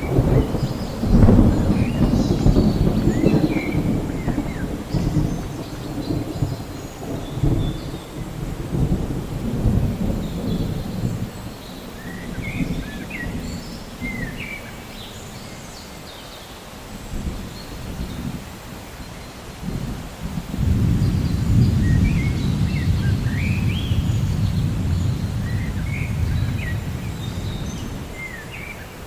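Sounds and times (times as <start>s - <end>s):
thunder rumbling: 0.0s - 15.4s, 19.5s - 29.0s
rain falling: 0.0s - 29.0s.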